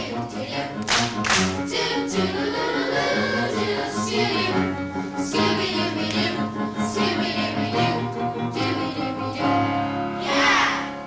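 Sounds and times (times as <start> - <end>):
group singing in chorus: 0.0 - 11.0
musical accompaniment: 0.0 - 11.0.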